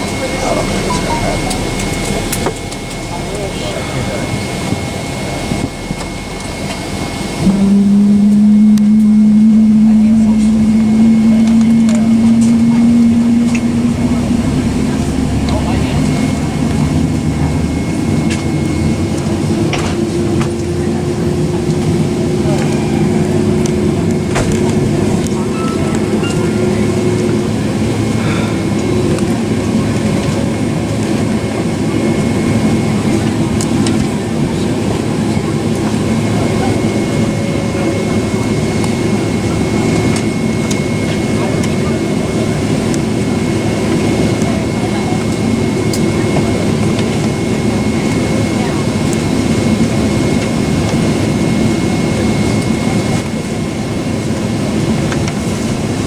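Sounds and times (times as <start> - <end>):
jet engine and wheel rumble: 0.0 - 56.0.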